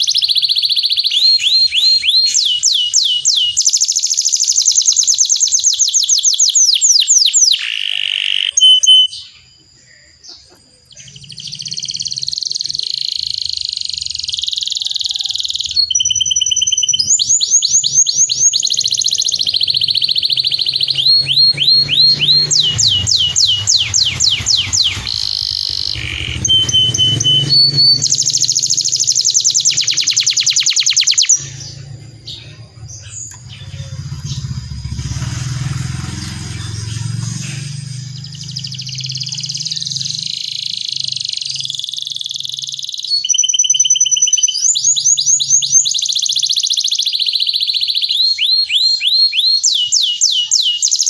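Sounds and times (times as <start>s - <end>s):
canary singing trills: 0.0s - 51.0s.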